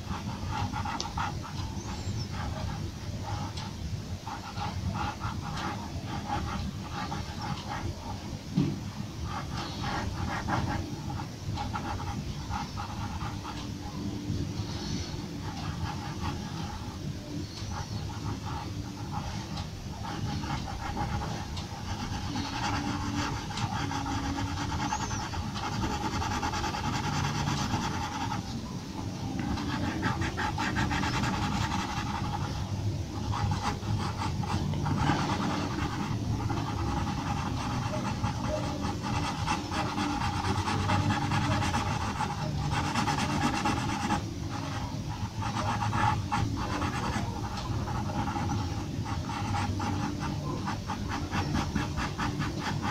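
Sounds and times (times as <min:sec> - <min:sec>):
pencil scratching on paper: 0:00.0 - 0:52.9
steady background hum: 0:00.0 - 0:52.9.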